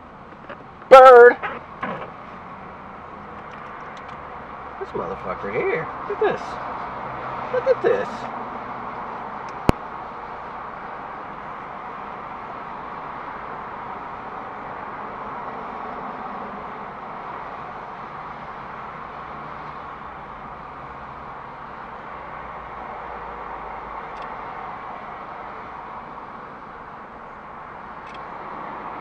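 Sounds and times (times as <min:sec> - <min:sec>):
traffic noise inside car: 0:00.0 - 0:29.0.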